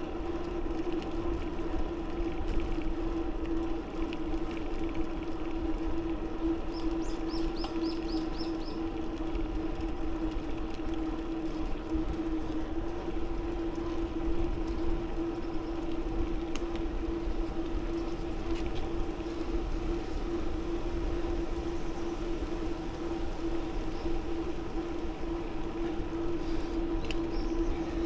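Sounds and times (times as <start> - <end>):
bicycle riding hum and wind: 0.0 - 28.0.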